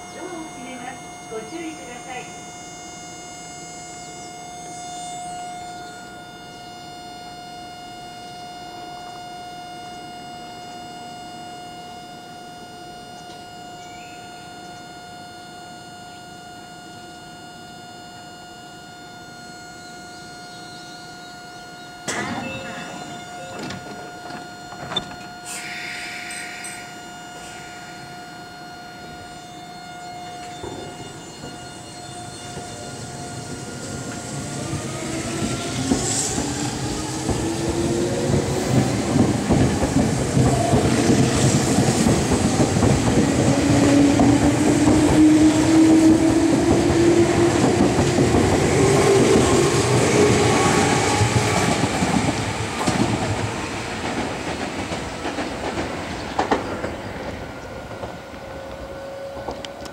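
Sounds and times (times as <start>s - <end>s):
train motor whine: 0.0s - 59.9s.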